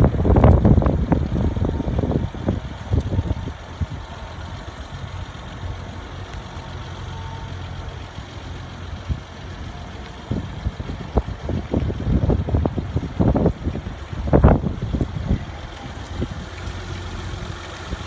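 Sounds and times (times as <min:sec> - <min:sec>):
wind buffeting microphone: 0:00.0 - 0:06.1, 0:08.9 - 0:18.0
car engine idling: 0:00.0 - 0:18.0.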